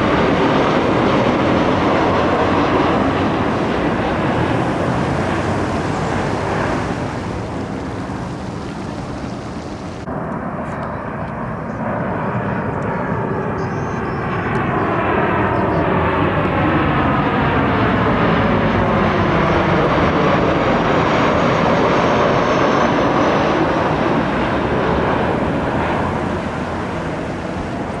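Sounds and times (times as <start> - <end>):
airliner passing overhead: 0.0 - 28.0.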